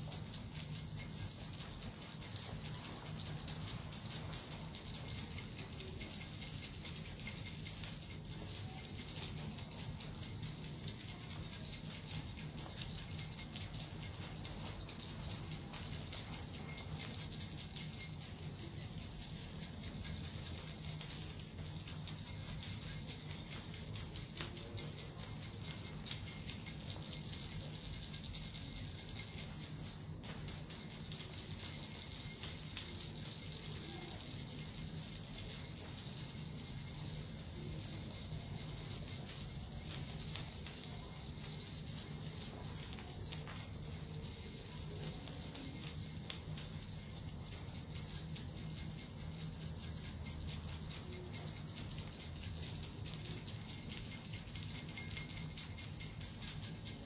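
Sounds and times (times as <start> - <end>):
bells and metal rattle jingling: 0.0 - 57.0.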